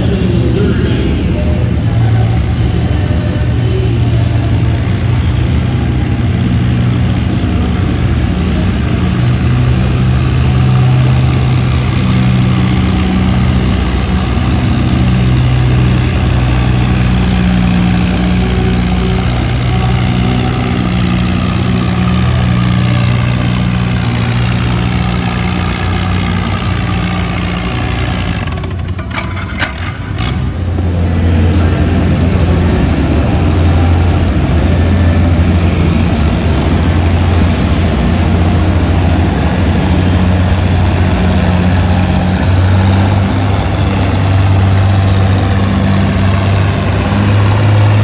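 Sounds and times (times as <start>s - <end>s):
tractor engine running under load: 0.0s - 48.0s.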